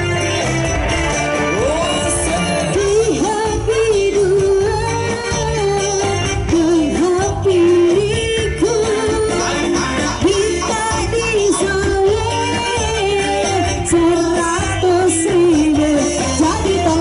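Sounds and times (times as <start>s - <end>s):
ornamented singing over loudspeakers: 0.0s - 17.0s.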